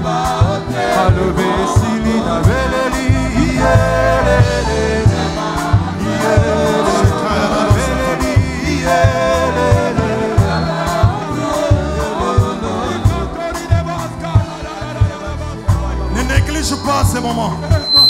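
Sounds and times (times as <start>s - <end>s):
steady drum beat: 0.0s - 17.9s
bass guitar: 0.0s - 18.0s
choir singing gospel song: 0.0s - 18.0s.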